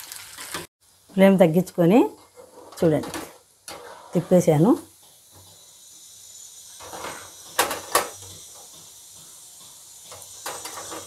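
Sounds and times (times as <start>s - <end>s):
deep-frying sizzle in oil: 0.0s - 11.0s.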